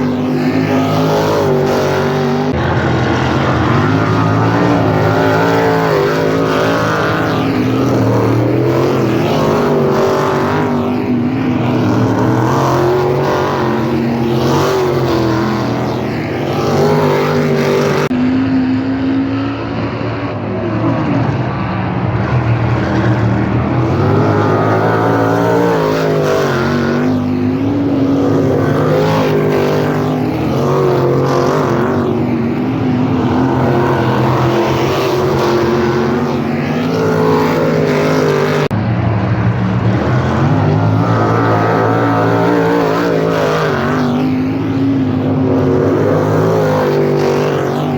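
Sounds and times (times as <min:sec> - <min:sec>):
race car engines passing: 0:00.0 - 0:47.9.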